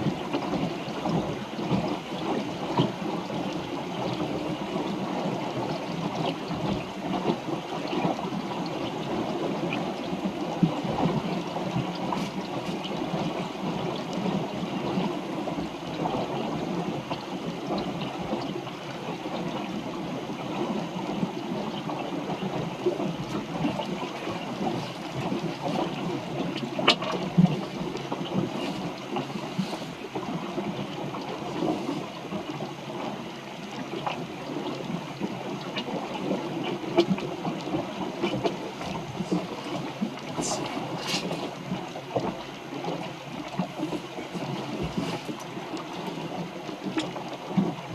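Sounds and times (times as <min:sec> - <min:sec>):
water splashing along a hull: 0:00.0 - 0:47.9.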